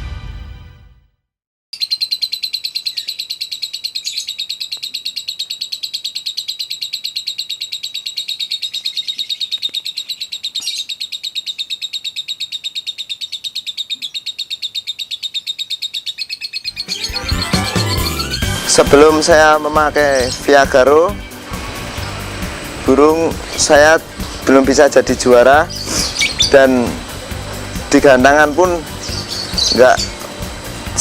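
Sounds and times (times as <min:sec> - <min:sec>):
bird trilling: 0:01.8 - 0:31.0.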